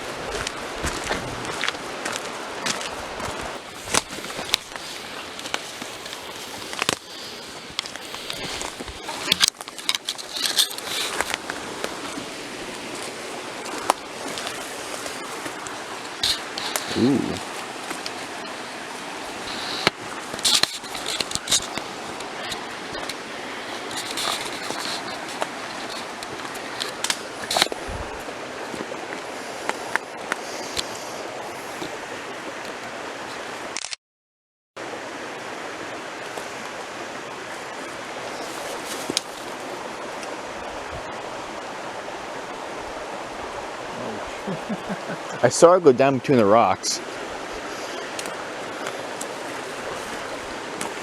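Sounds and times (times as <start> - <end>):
brook running over rocks: 0.0 - 33.7, 34.8 - 51.0.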